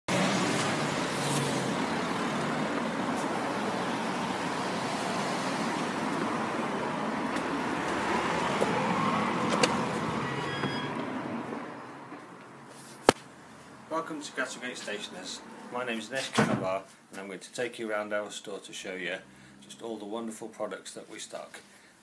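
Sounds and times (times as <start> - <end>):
street traffic noise: 0.0 - 17.2, 18.0 - 22.0.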